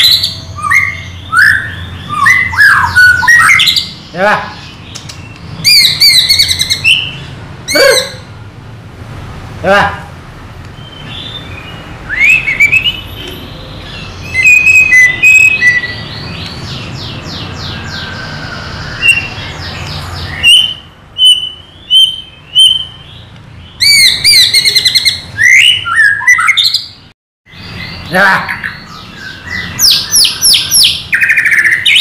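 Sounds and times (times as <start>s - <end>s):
bird singing whistles and trills: 0.0s - 4.0s, 4.9s - 8.2s, 10.8s - 32.0s.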